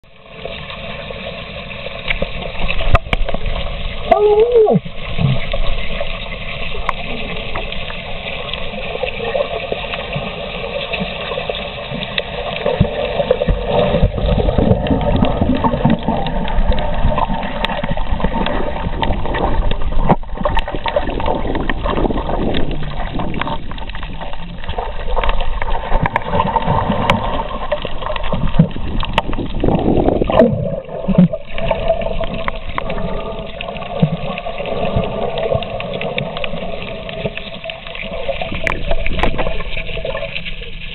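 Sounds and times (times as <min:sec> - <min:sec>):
muffled underwater water sloshing: 0:00.1 - 0:40.9.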